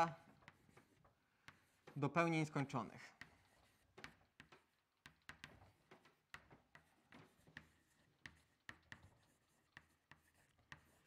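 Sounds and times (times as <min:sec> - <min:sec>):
chalk tapping on blackboard: 0:00.0 - 0:11.0.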